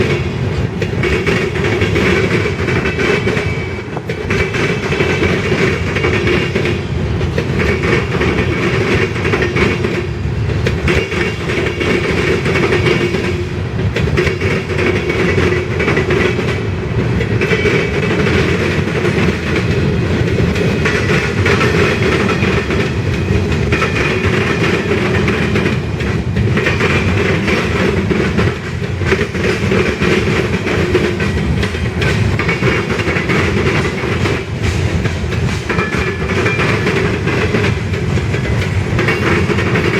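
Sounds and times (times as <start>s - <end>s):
freight train wheels clicking on rails: 0.0s - 39.9s.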